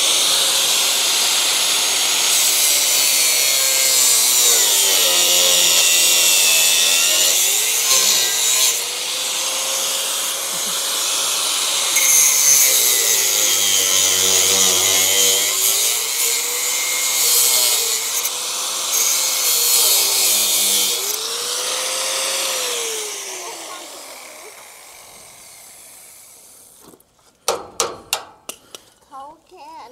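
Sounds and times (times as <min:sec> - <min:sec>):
angle grinder grinding steel: 0:00.0 - 0:26.8.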